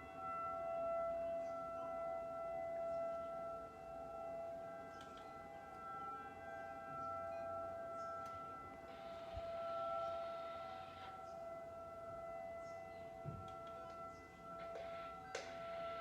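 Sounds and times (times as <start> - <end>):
tornado warning siren steady tone: 0.0 - 16.0.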